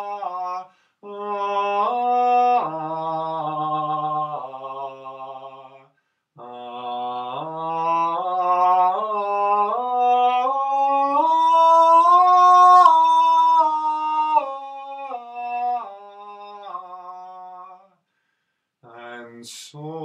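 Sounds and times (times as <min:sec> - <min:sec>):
man singing unaccompanied vowel: 0:00.0 - 0:17.9, 0:18.8 - 0:20.0.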